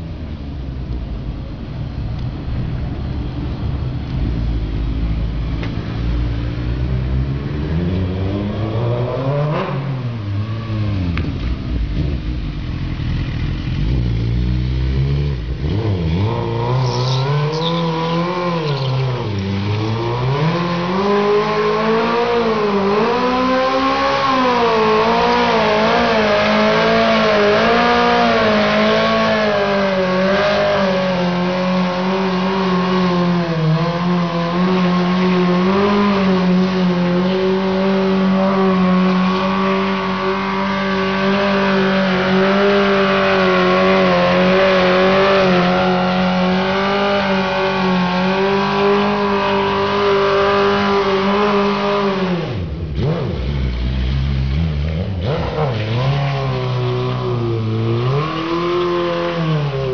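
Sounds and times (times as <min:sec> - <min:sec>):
motorcycle engine revving: 0:01.7 - 0:59.9
rear tyre spinning: 0:08.3 - 0:59.9.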